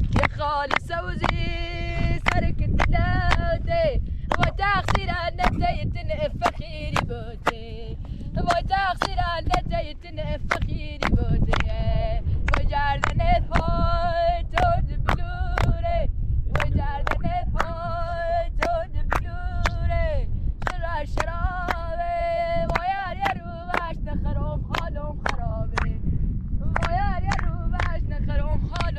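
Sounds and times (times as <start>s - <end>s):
low rumble: 0.0s - 28.9s
woman singing: 0.1s - 26.0s, 26.6s - 28.9s.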